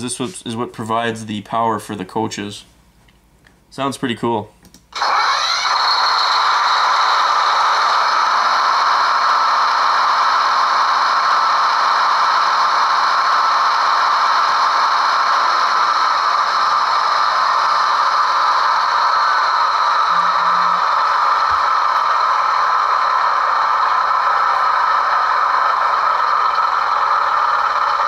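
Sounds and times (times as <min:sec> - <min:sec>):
diesel generator drone: 0:05.0 - 0:28.0.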